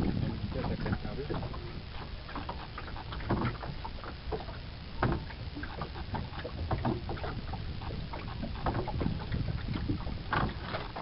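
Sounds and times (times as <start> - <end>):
low steady rumble: 0.0 - 11.0
oar splashing in water: 0.0 - 11.0.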